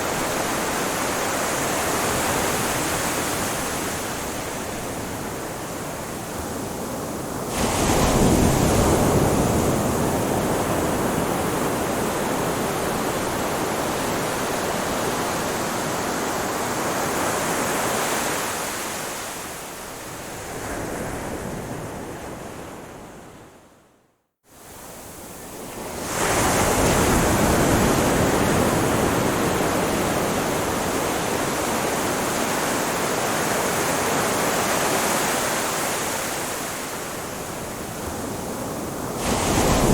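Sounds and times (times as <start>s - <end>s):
ocean waves breaking on beach: 0.0s - 23.5s, 24.6s - 39.9s.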